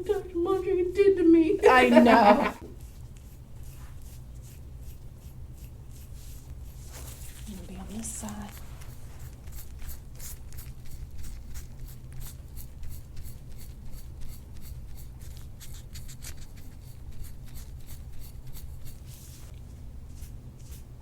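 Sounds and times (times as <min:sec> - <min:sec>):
rubbing strokes over skin: 0:00.0 - 0:21.0
steady low hum: 0:00.0 - 0:21.0.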